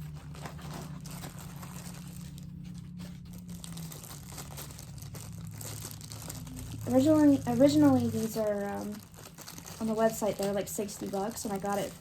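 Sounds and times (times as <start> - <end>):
low steady hum: 0.0 - 12.0
plastic packaging crinkling: 0.0 - 12.0.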